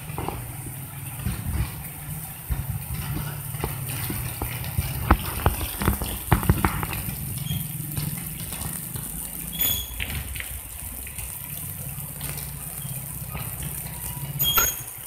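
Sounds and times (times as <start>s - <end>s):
low engine rumble: 0.0s - 15.0s
rain on concrete and puddles: 0.0s - 15.0s
sharp drips: 0.0s - 15.0s.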